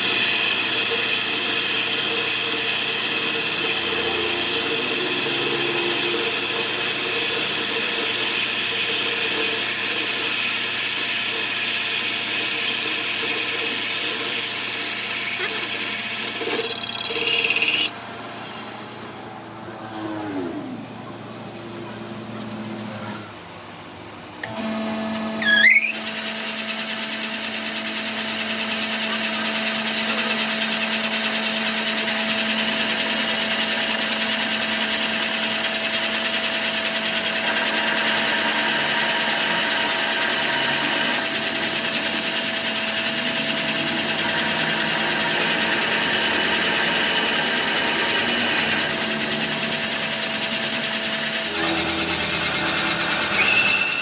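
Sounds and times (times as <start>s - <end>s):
power tool winding down: 0.0s - 17.9s, 24.4s - 54.0s
power tool spinning up and running: 0.0s - 21.0s, 24.4s - 54.0s.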